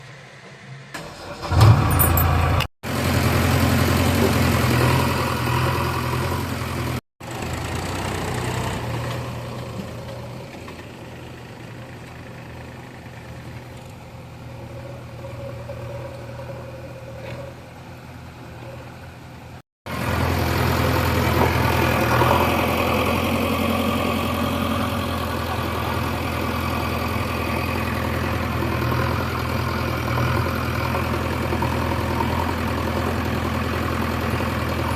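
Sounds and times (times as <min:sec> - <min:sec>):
heavy machinery diesel engine: 0:00.0 - 0:34.9.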